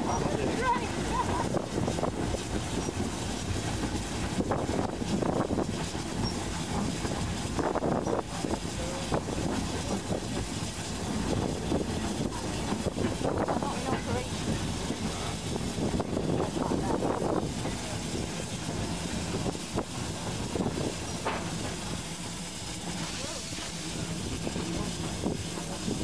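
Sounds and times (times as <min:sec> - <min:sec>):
train rumbling and rattling: 0:00.0 - 0:26.0
wheels clacking on rails: 0:00.0 - 0:26.0.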